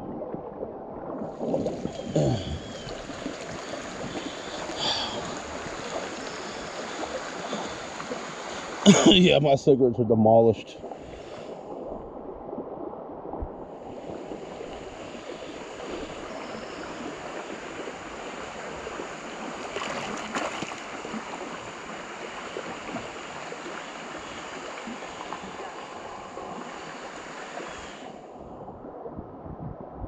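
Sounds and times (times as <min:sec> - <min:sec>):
creek water rippling: 0:01.0 - 0:12.2, 0:13.6 - 0:28.4.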